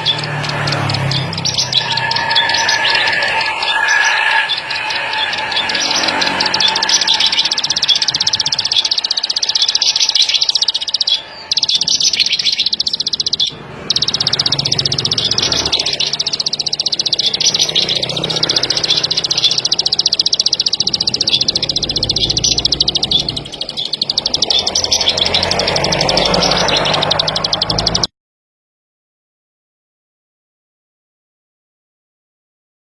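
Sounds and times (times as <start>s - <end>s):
warbler singing chattering trill: 0.0s - 28.1s.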